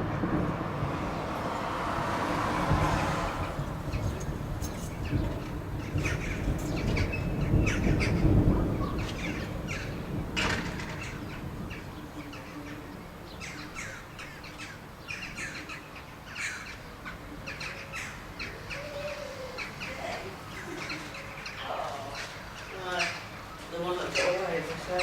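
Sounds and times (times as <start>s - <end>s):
distant thunder rumble: 0.0s - 25.0s
birds chirping: 1.0s - 25.0s.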